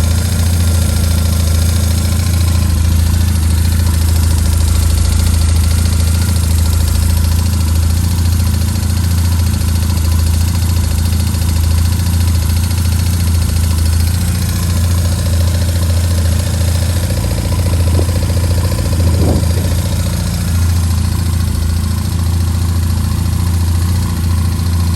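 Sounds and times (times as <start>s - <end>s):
engine ticking and rattling: 0.0s - 24.9s
motorcycle engine idling: 0.0s - 24.9s.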